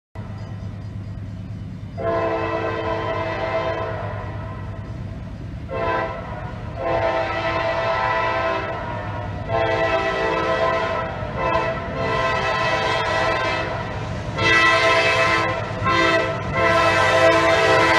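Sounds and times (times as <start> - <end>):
train rumble: 0.2 - 17.9
locomotive air horn blasts: 2.0 - 4.8, 5.7 - 17.9.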